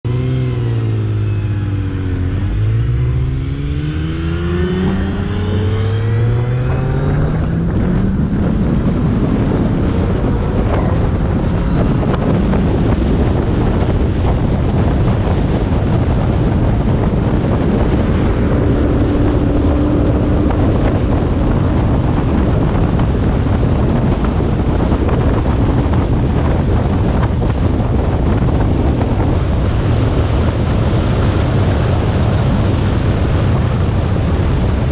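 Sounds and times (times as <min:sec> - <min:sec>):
car engine accelerating: 0:00.0 - 0:34.9
wind and road noise: 0:00.0 - 0:34.9.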